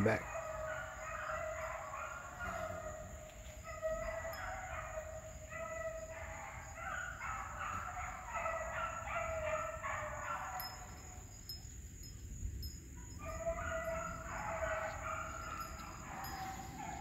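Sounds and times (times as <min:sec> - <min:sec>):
distant dogs baying: 0:00.0 - 0:17.0.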